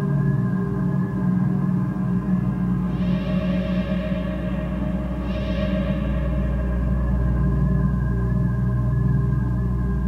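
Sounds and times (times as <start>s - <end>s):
ambient electronic drone music: 0.0s - 10.0s.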